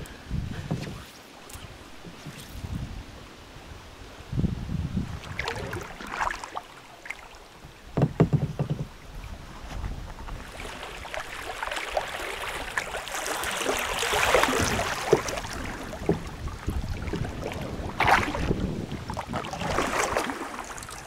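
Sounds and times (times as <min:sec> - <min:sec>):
water splashes: 0:00.0 - 0:02.9, 0:05.0 - 0:21.0
wind rumble on microphone: 0:00.0 - 0:06.2, 0:07.6 - 0:11.2, 0:13.9 - 0:21.0.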